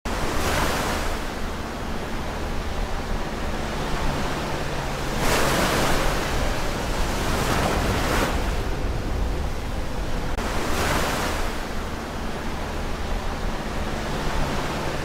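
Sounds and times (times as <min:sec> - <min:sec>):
ocean waves breaking: 0:00.1 - 0:15.0.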